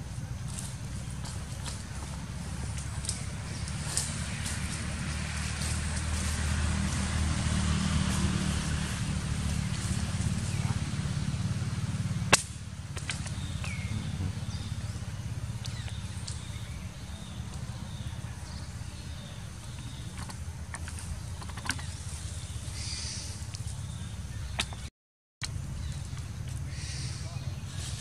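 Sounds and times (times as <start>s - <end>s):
engine running with pulsing drone: 0.0s - 24.8s.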